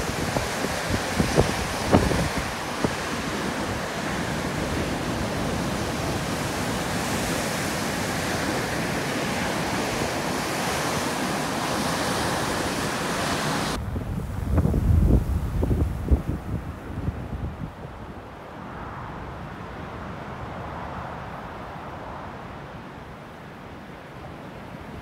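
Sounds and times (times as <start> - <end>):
wind on microphone: 0.0 - 21.5.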